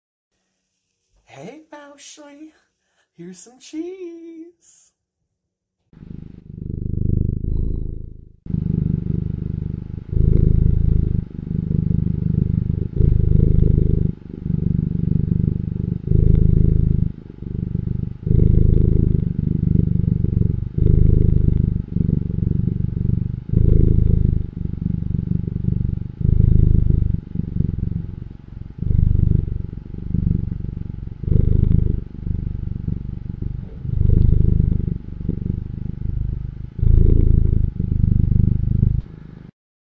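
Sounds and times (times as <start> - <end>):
cat purring: 5.9 - 39.5.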